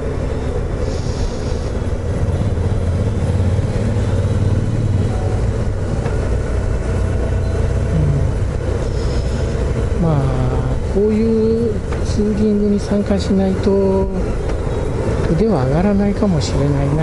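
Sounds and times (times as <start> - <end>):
motorcycle engines droning: 0.0 - 17.0.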